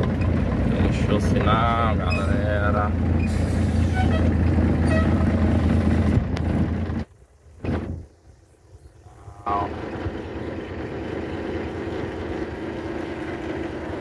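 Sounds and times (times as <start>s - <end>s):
truck engine running in cab: 0.0s - 14.0s.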